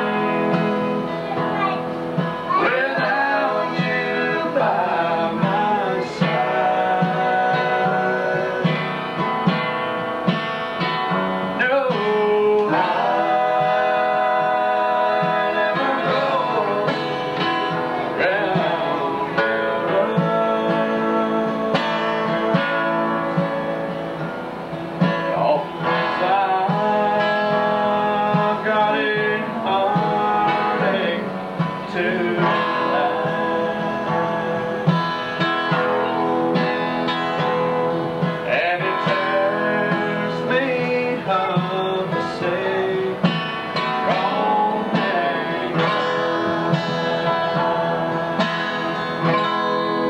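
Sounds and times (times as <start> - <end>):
acoustic guitar country song: 0.0 - 50.0.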